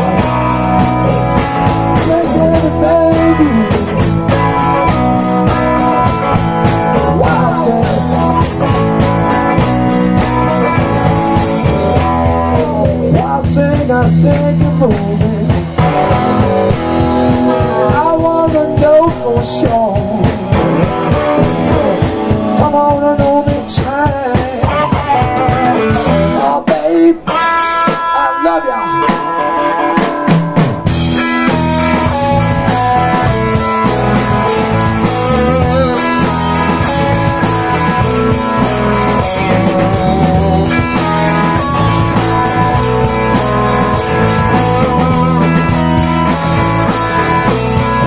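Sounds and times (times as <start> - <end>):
drum kit beat: 0.0 - 48.0
electric guitars: 0.0 - 48.0.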